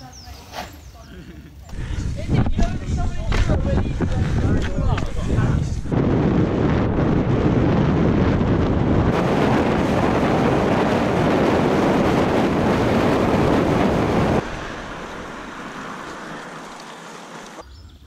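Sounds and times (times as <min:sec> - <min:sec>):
wind buffeting microphone: 0:01.7 - 0:16.8.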